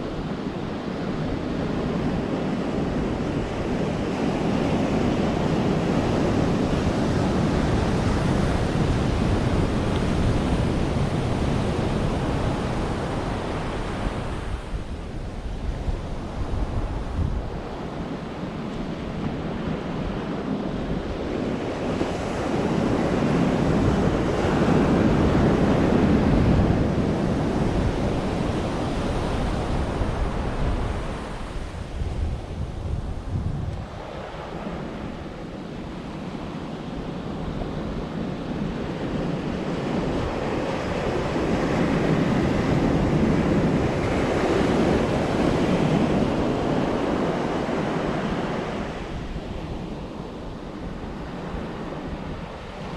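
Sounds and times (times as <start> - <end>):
sea waves breaking on shore: 0.1 - 52.9.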